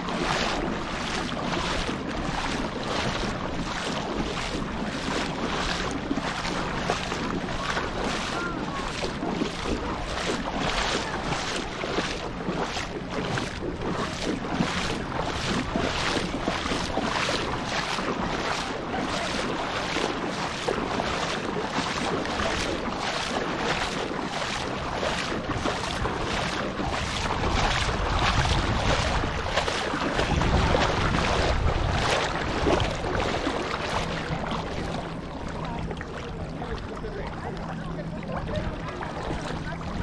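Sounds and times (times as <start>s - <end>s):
seawater sloshing and splashing: 0.0s - 40.0s
wind buffeting microphone: 0.0s - 40.0s.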